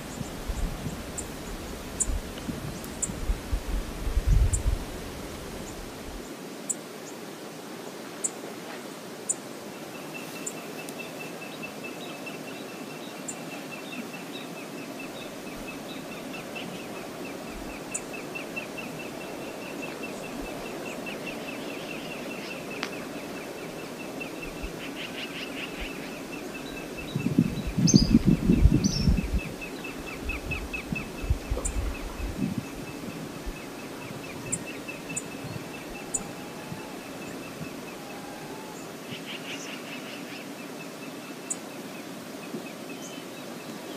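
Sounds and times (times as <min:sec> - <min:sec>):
river flowing: 0:00.0 - 0:27.2, 0:29.5 - 0:43.9.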